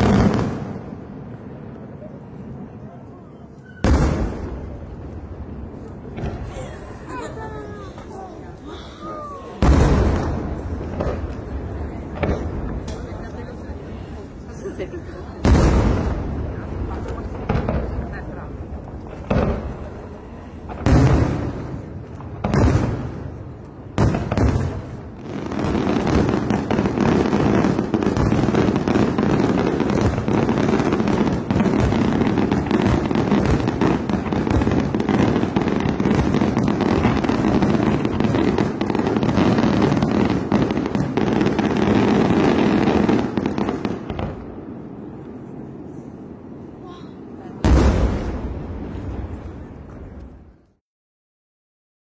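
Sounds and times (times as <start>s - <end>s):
fireworks barrage bangs and crackling: 0.0s - 50.8s.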